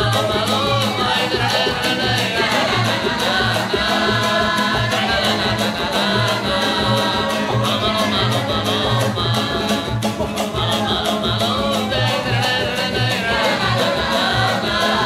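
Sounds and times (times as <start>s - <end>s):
acoustic band playing: 0.0s - 15.0s
folk song singing: 0.0s - 15.0s.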